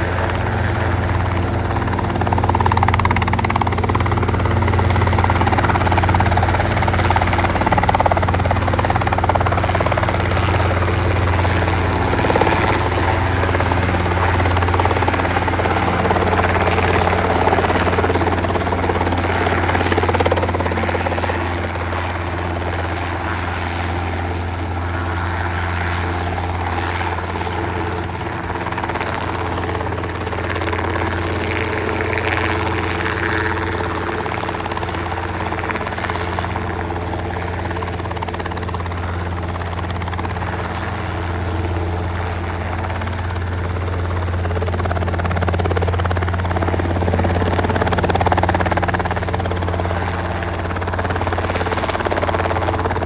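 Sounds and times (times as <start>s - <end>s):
helicopter engine hum: 0.0s - 53.0s
helicopter rotor noise: 0.0s - 53.0s.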